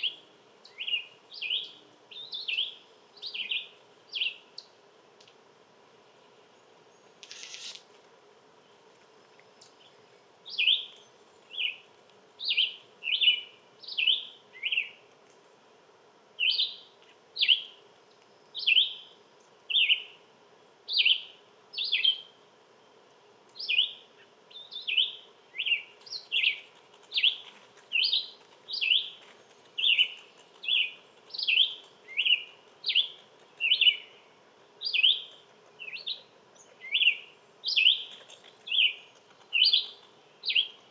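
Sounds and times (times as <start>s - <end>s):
songbird chirping: 0.0s - 5.3s, 6.0s - 7.9s, 8.6s - 15.4s, 16.4s - 22.4s, 23.1s - 40.9s.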